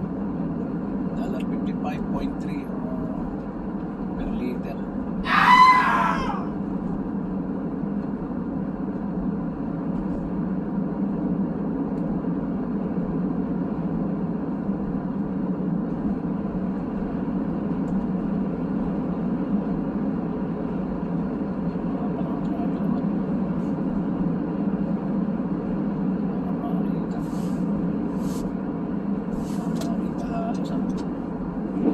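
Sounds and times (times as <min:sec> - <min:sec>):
car road and engine noise: 0:00.0 - 0:31.9.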